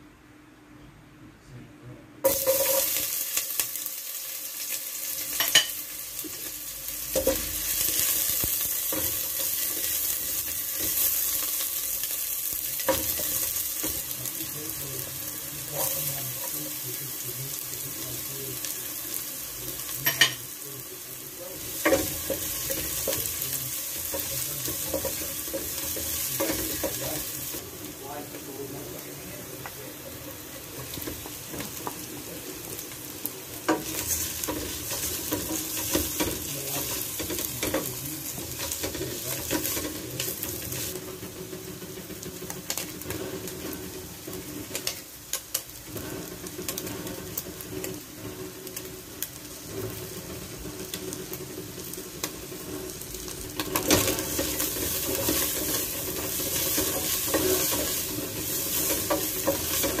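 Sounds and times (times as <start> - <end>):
chicken sizzling in hot oil: 2.2 - 60.0.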